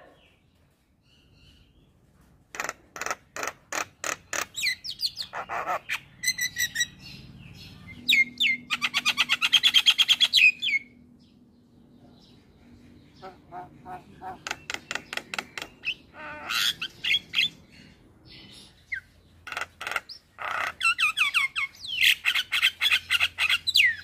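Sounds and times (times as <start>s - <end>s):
bird singing varied song: 0.0s - 24.0s.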